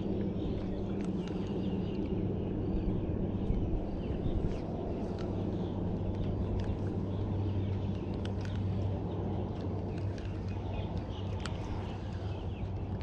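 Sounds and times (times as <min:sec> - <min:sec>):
birds chirping: 0:00.0 - 0:13.0
wind rumbling on microphone: 0:00.0 - 0:13.0.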